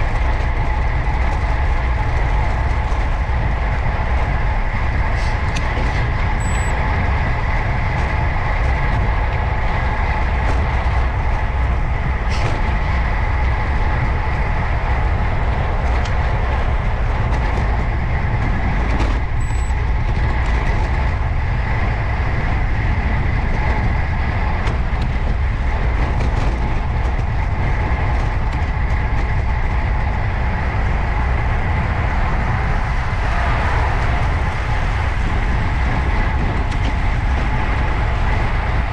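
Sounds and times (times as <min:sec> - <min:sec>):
bicycle tyre road noise: 0:00.0 - 0:38.9
wind rushing over microphone: 0:00.0 - 0:38.9.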